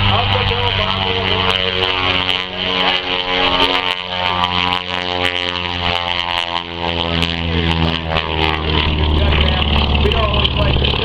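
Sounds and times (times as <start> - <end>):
airplane engines and propellers droning: 0.0 - 11.0.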